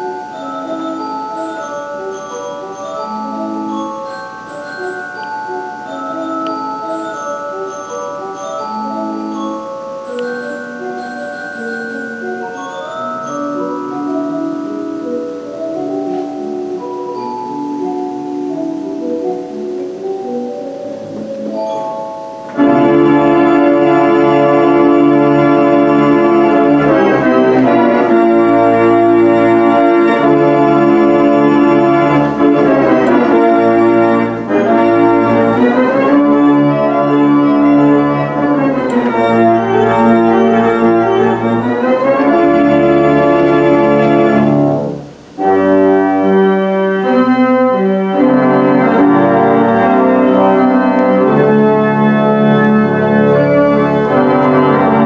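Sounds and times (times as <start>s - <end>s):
pipe organ playing full chords: 0.0s - 55.0s.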